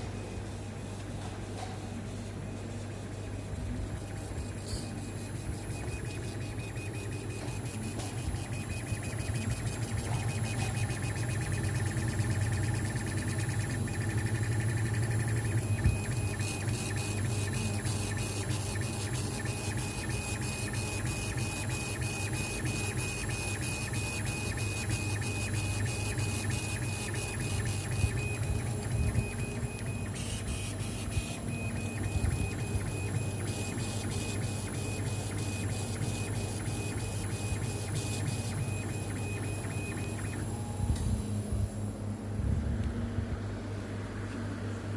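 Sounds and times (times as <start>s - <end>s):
steady low hum: 0.0s - 44.9s
laser engraver head whining: 3.0s - 41.9s.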